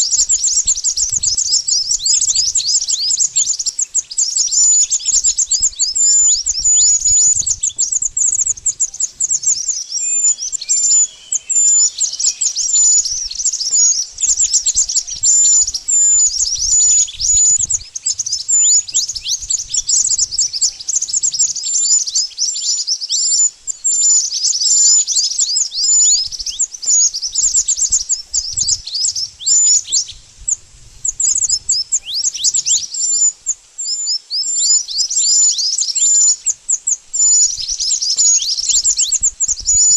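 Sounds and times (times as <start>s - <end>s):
rapid high-pitched bird chirps: 0.0s - 39.9s.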